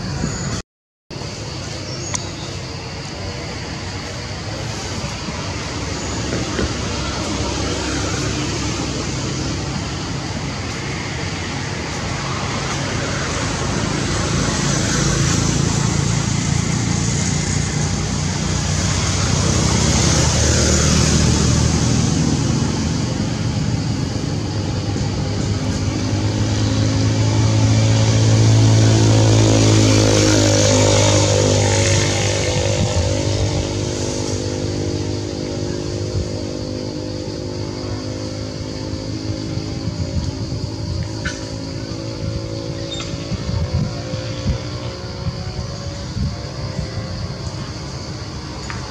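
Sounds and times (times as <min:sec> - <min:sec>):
vehicle engine passing: 0:02.6 - 0:48.9.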